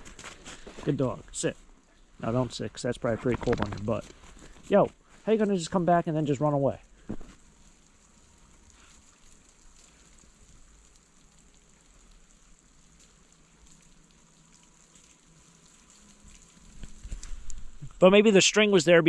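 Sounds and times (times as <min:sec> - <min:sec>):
sleet and wet snow falling: 0:00.0 - 0:19.0.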